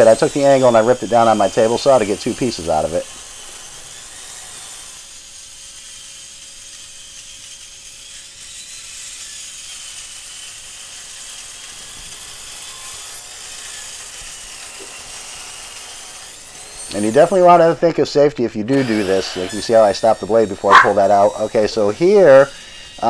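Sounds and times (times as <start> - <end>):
table saw cutting metal: 0.0 - 23.0.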